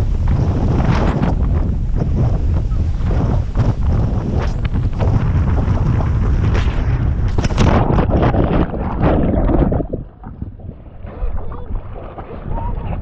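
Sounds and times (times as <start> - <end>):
underwater wash: 0.0 - 13.0
wind buffeting microphone: 0.0 - 13.0.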